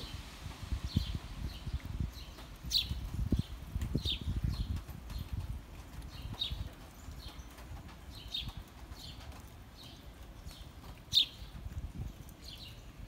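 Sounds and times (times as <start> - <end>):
sparrows chirping: 0.9 - 13.0.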